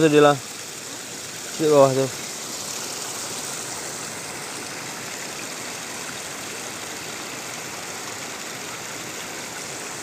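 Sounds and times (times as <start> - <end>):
water rushing in a channel: 0.0 - 10.0.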